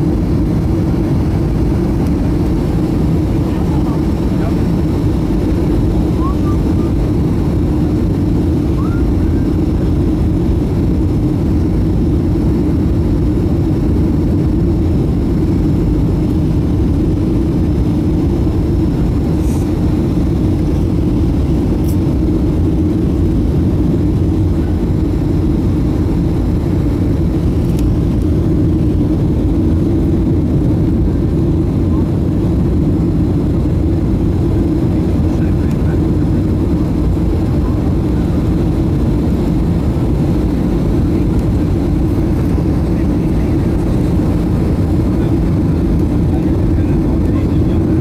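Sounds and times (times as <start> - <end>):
airplane cabin rumble: 0.0 - 48.0.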